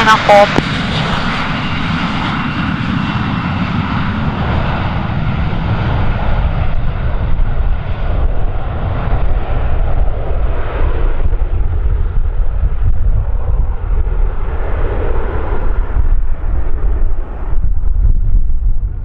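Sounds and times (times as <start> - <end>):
jet engines at takeoff power: 0.0 - 19.0.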